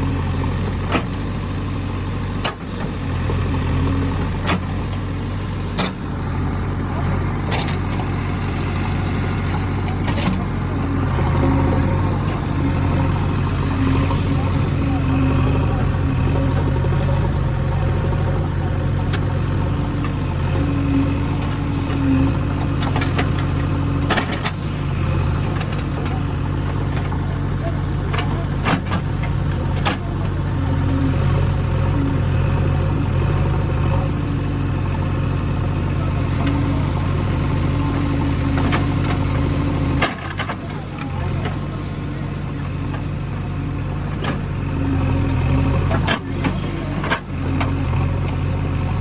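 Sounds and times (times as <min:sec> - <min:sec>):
diesel engine running low revs: 0:00.0 - 0:49.0.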